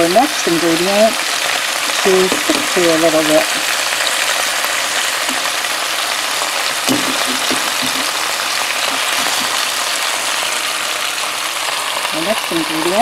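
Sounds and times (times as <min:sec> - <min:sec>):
meat and vegetables sizzling: 0:00.0 - 0:13.0.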